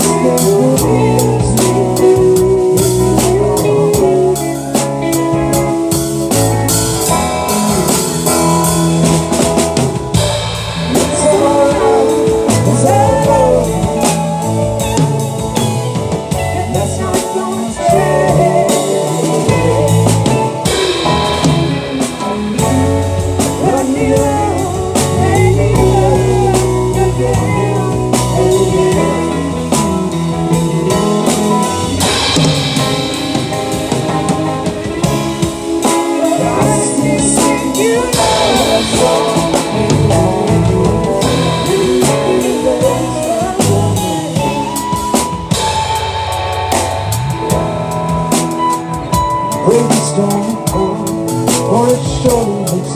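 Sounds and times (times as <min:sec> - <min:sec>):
live band playing blues rock: 0:00.0 - 0:52.9.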